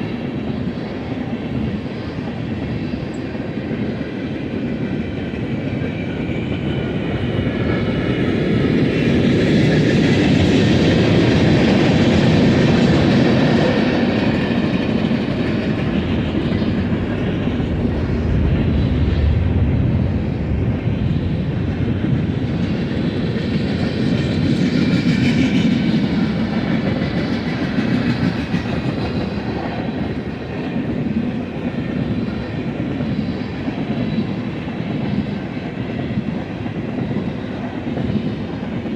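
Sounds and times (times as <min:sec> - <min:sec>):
freight train wheels clacking: 0:02.3 - 0:38.9.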